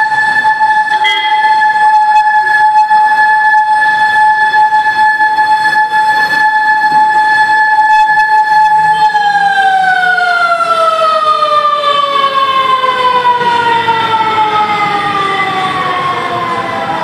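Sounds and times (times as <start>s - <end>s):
fire truck siren wailing: 0.0s - 17.0s.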